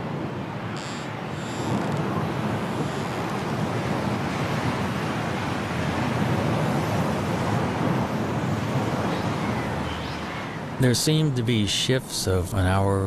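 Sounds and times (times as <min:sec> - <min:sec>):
strong wind blowing: 0:00.0 - 0:11.8.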